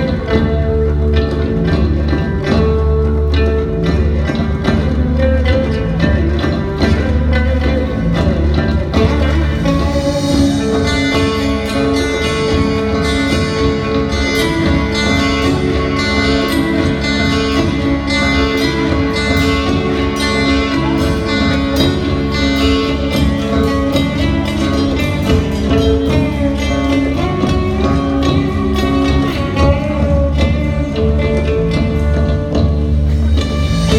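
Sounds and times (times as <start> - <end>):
electric guitar: 0.0 - 33.9
live rock band instrumental: 0.0 - 33.9.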